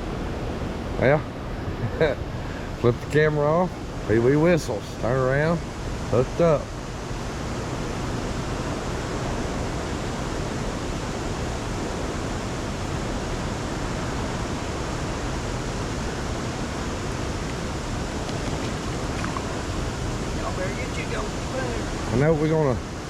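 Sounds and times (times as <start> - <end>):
water rushing: 0.0 - 23.0
wind around boat: 0.0 - 23.0.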